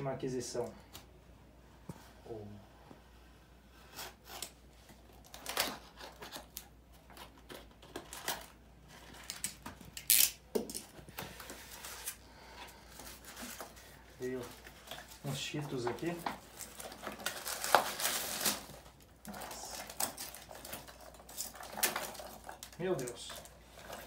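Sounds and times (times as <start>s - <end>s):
package rustling: 4.4s - 24.0s.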